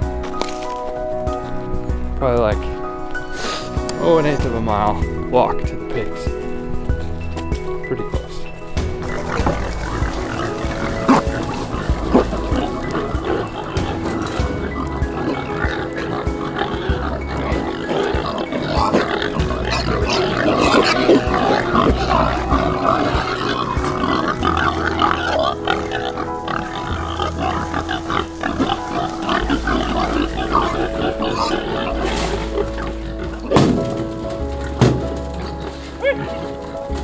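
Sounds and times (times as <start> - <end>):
background music with held notes: 0.0 - 37.0
pigs calling: 0.0 - 37.0.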